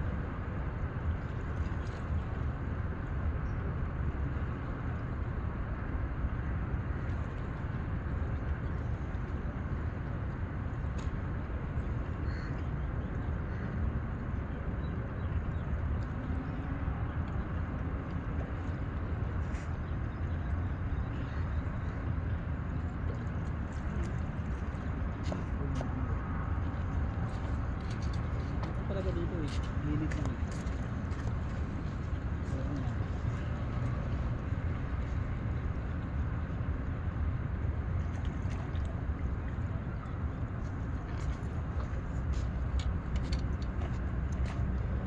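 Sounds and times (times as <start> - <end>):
faint engine hum: 0.0 - 45.0
low outdoor rumble: 0.0 - 45.0.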